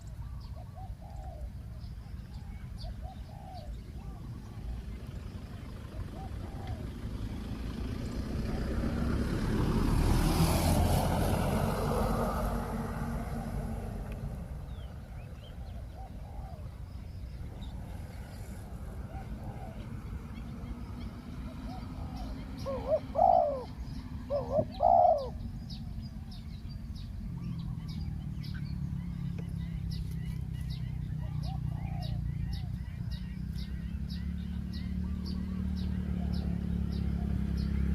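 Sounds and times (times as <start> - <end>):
dove cooing: 0.0 - 9.0, 10.6 - 26.1, 29.3 - 37.9
small birds chirping: 0.0 - 37.9
vehicle passing by: 0.0 - 37.9.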